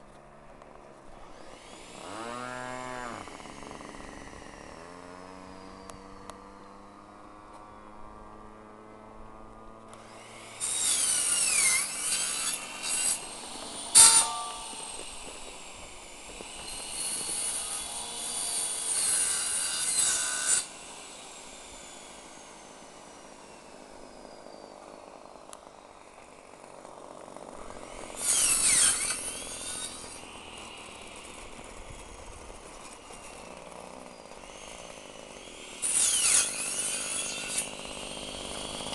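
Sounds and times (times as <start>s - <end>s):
model plane engine buzzing: 0.0s - 38.9s.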